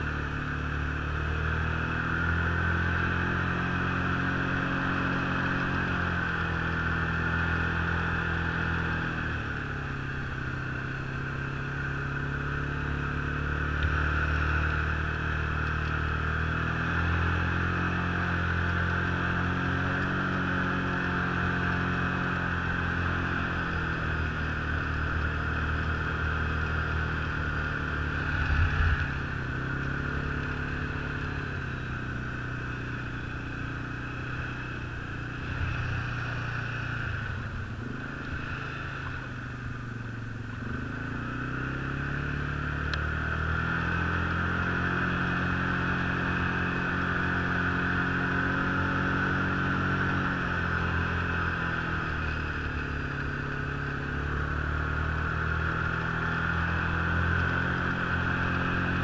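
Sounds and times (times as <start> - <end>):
snowmobile engine running: 0.0 - 42.3, 43.2 - 59.0
snowmobile track hissing: 0.0 - 59.0.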